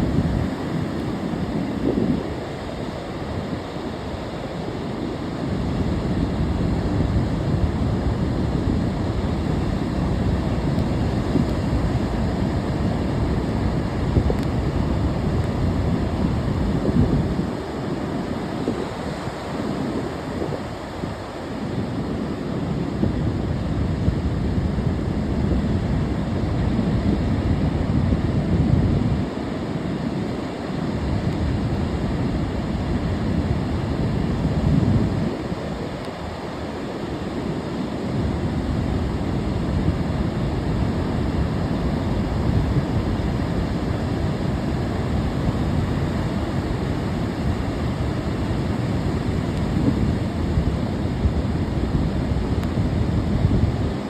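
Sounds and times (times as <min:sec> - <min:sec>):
sea waves breaking on shore: 0:00.0 - 0:54.0
wind rumbling on microphone: 0:00.0 - 0:54.0.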